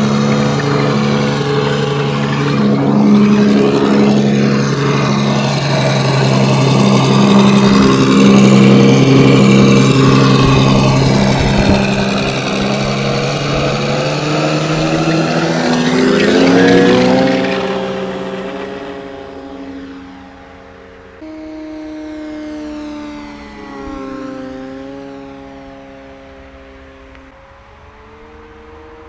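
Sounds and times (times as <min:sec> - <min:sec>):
piston aircraft engine sound: 0:00.0 - 0:29.0.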